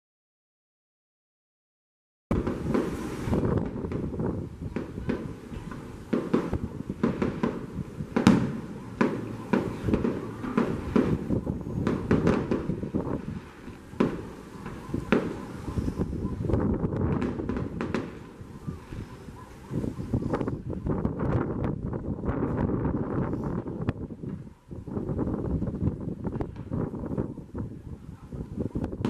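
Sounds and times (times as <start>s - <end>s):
fireworks bangs and crackles: 2.3s - 29.0s.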